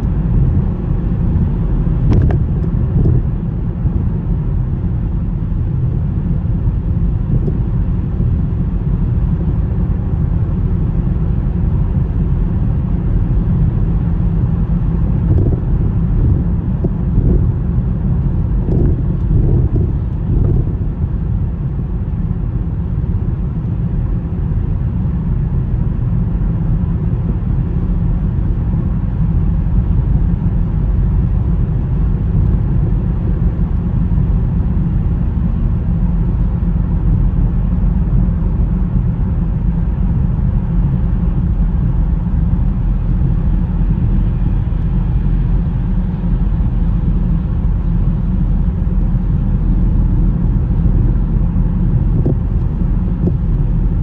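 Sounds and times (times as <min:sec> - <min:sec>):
car driving on snowy road: 0:00.0 - 0:54.0.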